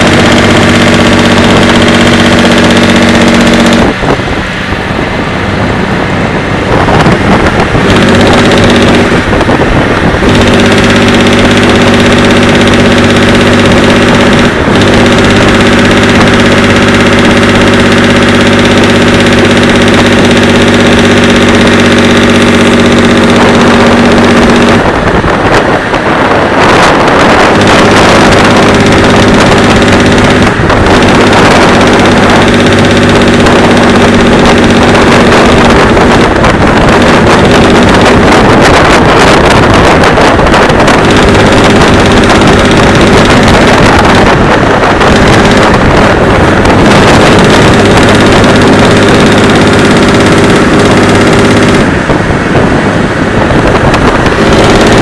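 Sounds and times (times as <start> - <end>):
vehicle engine running: 0.0 - 55.0
wind noise: 0.0 - 55.0.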